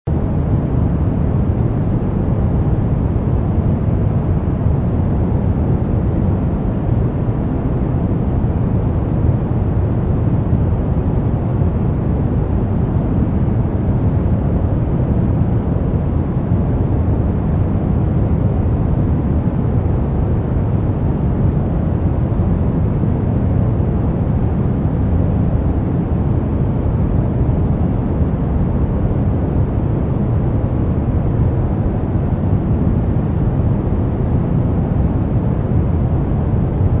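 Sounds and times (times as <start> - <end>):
brown noise hiss: 0.1 - 37.0.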